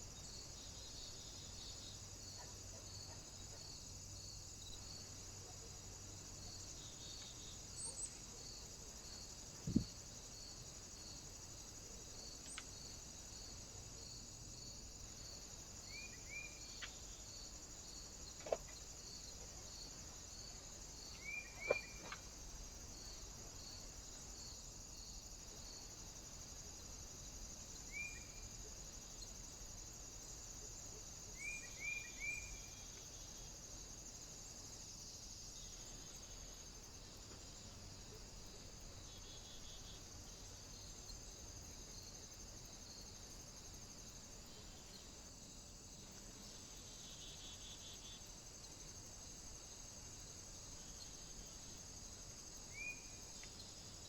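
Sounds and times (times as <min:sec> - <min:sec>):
steady high hiss: 0:03.7 - 0:54.0.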